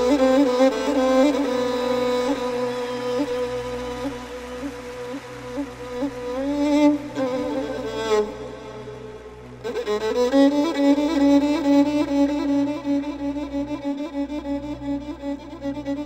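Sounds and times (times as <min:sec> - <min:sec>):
solo violin melody: 0:00.0 - 0:16.0.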